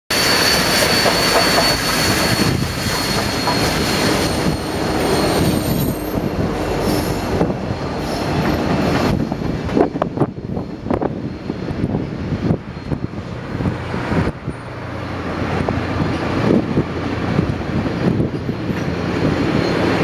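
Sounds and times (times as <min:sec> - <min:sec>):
high wheel squeal: 0:00.1 - 0:14.8, 0:17.4 - 0:20.0
train wheels rumbling on rail: 0:00.1 - 0:20.0.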